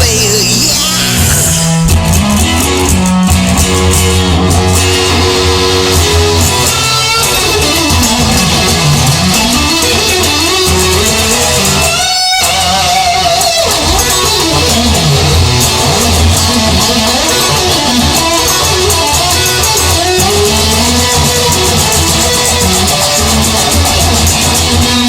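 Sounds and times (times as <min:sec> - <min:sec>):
bass guitar: 0:00.0 - 0:25.0
electric guitar bending notes: 0:00.0 - 0:25.0
high ticking beat: 0:00.0 - 0:25.0.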